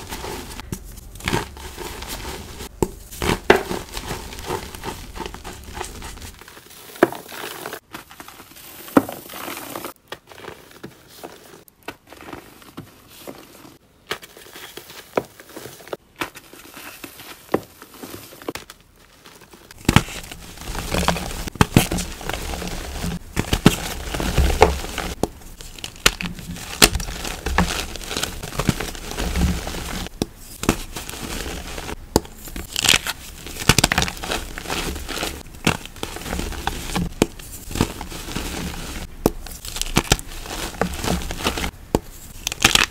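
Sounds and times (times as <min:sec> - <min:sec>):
chalk crumbling and crunching: 0:00.0 - 0:42.9.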